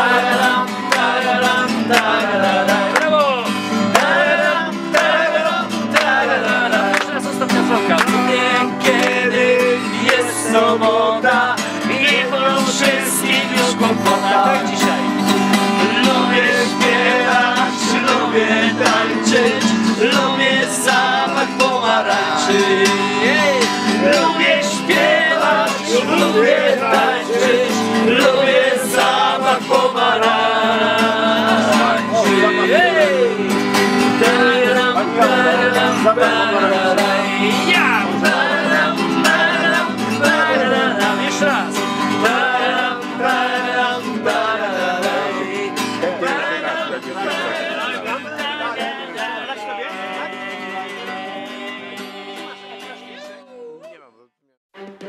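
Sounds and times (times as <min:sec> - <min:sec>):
guitar accompaniment: 0:00.0 - 0:53.8, 0:54.8 - 0:55.0
person singing: 0:00.0 - 0:54.0.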